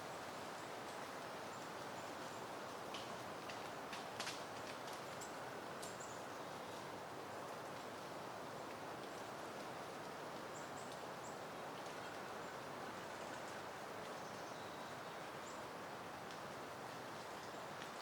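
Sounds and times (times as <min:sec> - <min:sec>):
wind rustling leaves: 0:00.0 - 0:18.0.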